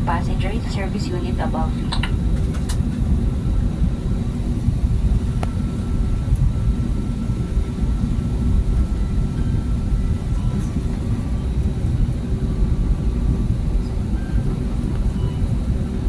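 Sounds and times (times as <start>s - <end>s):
aircraft cabin engine rumble: 0.0s - 16.0s
faint steady hum: 0.0s - 16.0s.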